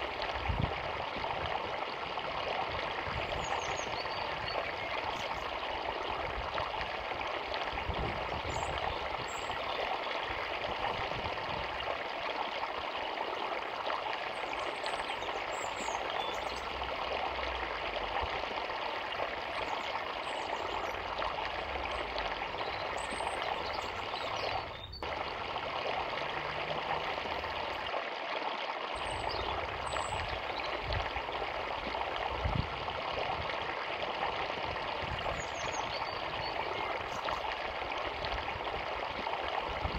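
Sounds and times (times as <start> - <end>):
river water rushing and trickling: 0.0 - 39.9.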